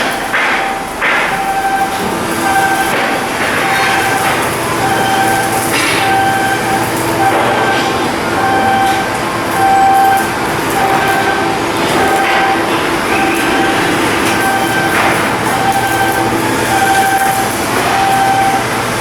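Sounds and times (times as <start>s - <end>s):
electronic warning beeper: 0.0s - 18.8s
loud machinery noise: 0.0s - 19.0s.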